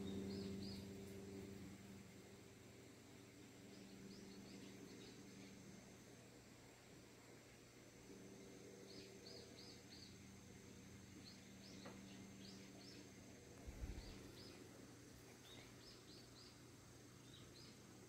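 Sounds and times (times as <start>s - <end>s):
small birds chirping: 0.0s - 1.7s, 2.3s - 6.2s, 8.6s - 18.0s.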